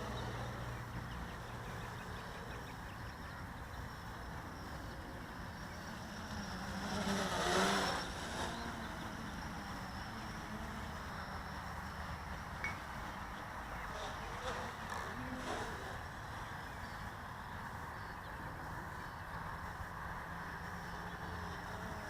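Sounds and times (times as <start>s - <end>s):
quadcopter propellers whirring: 0.0s - 22.0s.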